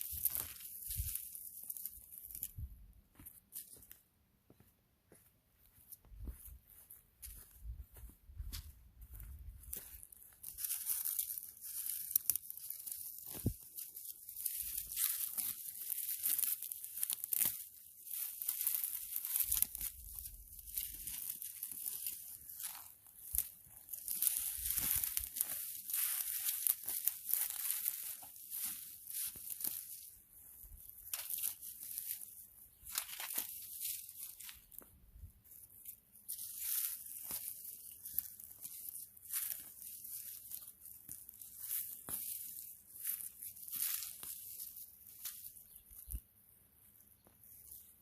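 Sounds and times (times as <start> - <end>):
dry seed heads rustling: 0.0 - 2.9, 9.2 - 48.0.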